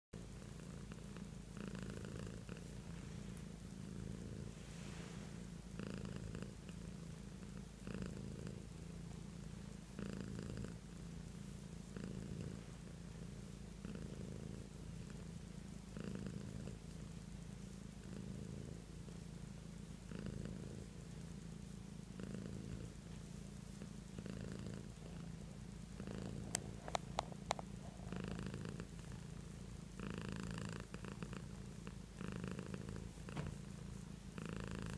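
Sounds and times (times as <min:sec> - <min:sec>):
cat purring: 0:00.2 - 0:34.9.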